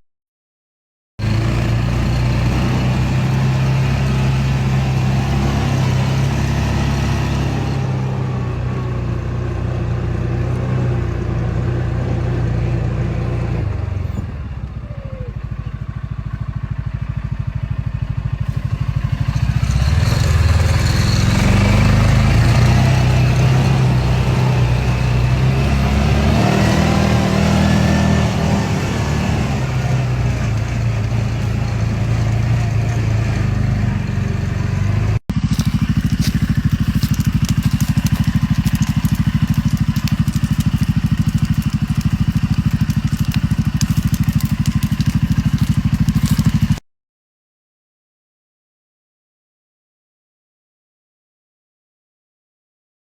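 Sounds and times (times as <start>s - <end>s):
vehicle engine running while driving: 1.2s - 46.8s.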